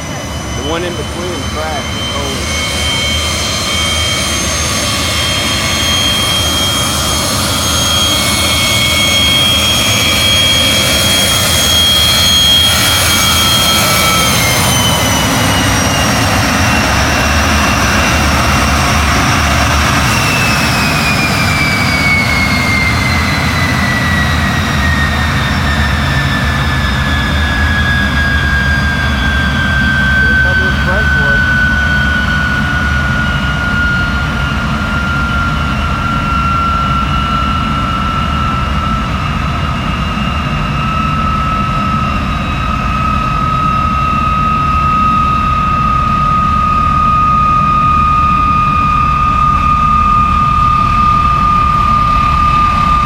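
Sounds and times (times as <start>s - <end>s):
jet engine rushing with whine: 0.0s - 53.0s.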